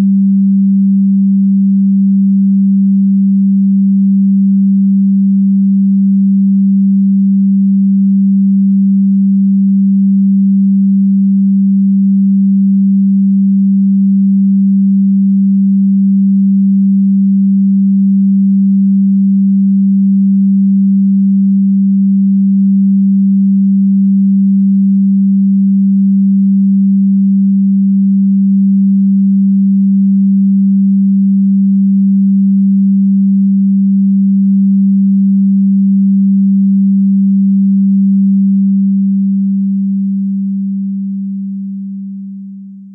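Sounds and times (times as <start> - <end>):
low sine tone: 0.0 - 42.9.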